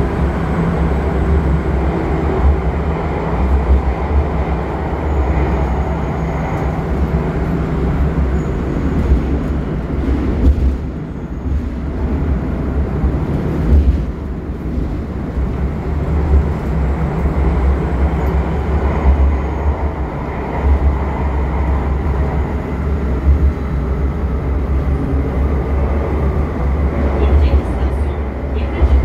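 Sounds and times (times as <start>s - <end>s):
train wheels rumbling: 0.0s - 29.0s.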